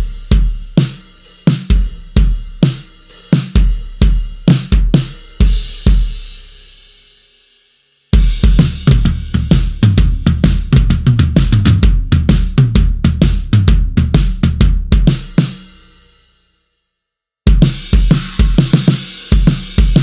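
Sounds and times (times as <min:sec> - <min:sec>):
drum kit playing fast groove: 0:00.0 - 0:07.1, 0:08.2 - 0:16.3, 0:17.5 - 0:20.0.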